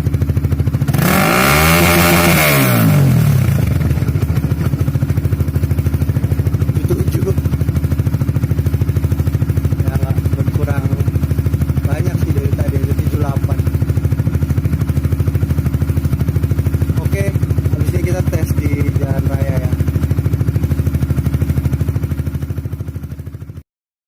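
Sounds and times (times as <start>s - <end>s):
motorcycle engine revving and idling: 0.0s - 23.6s.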